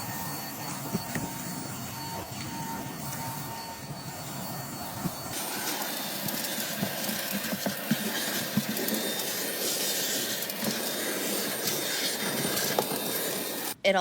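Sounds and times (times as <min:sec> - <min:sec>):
car vacuum cleaner running: 0:00.0 - 0:13.8.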